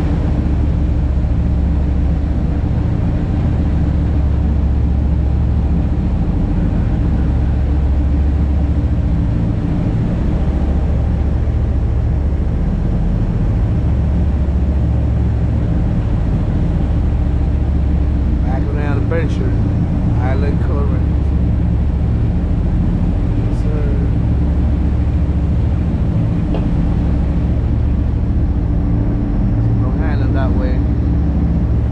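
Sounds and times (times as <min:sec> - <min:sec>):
boat engine droning: 0:00.0 - 0:31.9
wake water rushing: 0:00.0 - 0:31.9.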